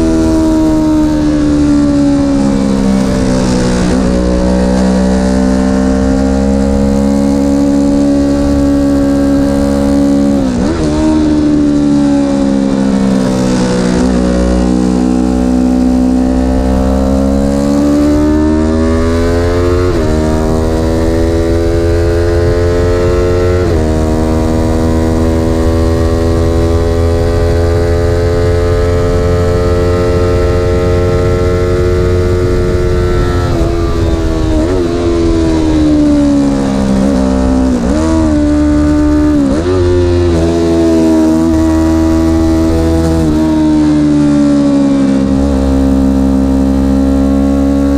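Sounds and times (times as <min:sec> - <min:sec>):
vehicle engine revving through gears: 0:00.0 - 0:47.9.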